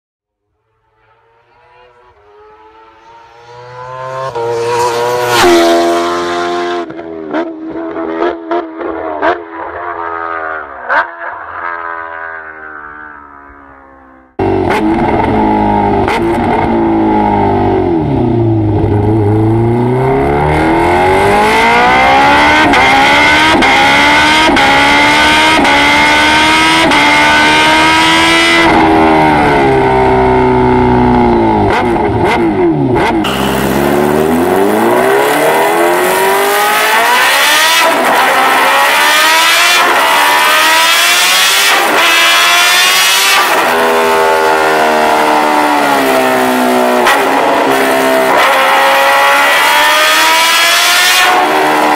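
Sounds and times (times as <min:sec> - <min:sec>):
motorcycle engine revving: 0:00.6 - 0:51.9.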